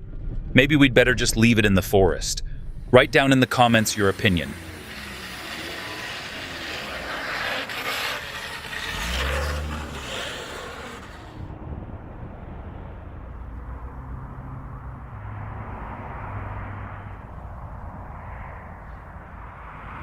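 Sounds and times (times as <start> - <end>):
car running with low hum: 2.4 - 20.0.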